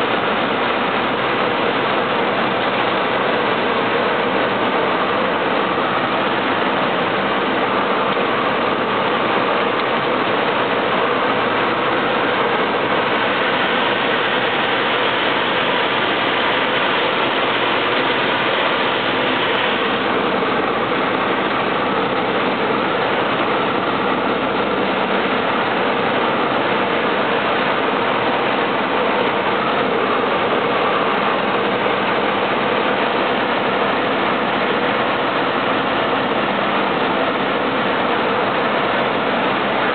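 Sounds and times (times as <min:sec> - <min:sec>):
cabin air noise: 0:00.0 - 0:39.9
propeller airplane engine droning: 0:00.0 - 0:39.9.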